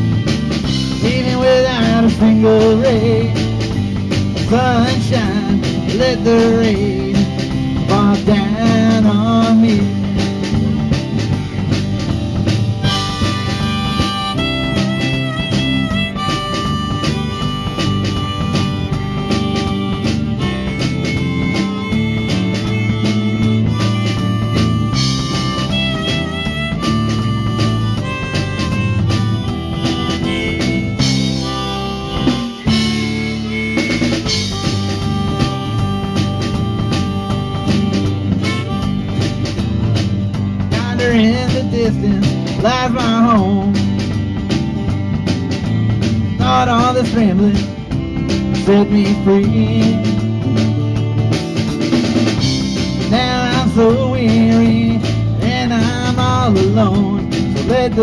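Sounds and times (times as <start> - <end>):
drum kit beat: 0.0 - 58.0
guitar: 0.0 - 58.0
lead instrument melody: 0.0 - 58.0.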